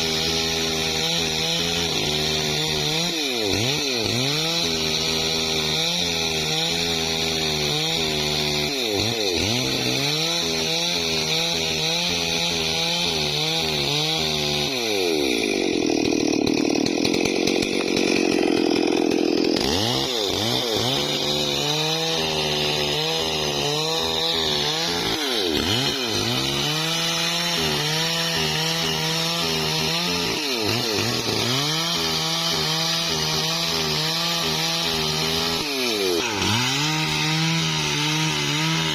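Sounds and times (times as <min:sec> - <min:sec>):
chainsaw cutting tree trunk: 0:00.0 - 0:38.9.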